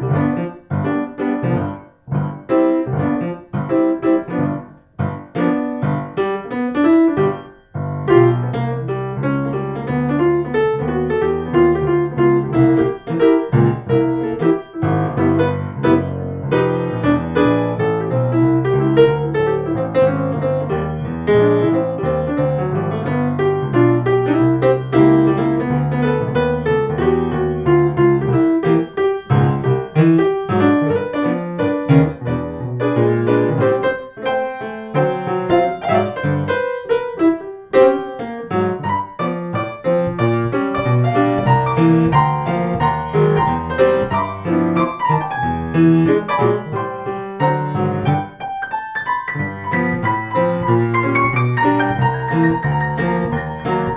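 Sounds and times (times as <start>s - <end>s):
blues piano music: 0.0s - 53.9s.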